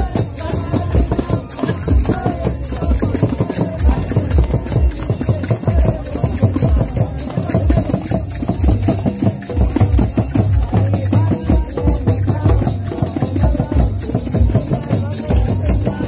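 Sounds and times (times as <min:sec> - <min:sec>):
hand drums playing dance rhythm: 0:00.0 - 0:16.0.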